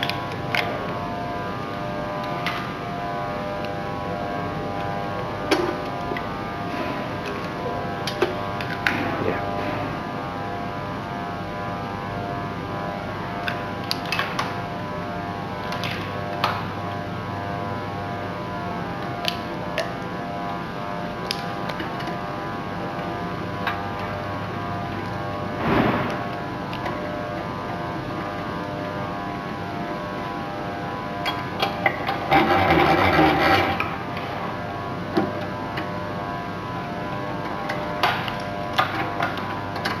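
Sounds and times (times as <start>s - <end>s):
test machine humming: 0.0s - 40.0s.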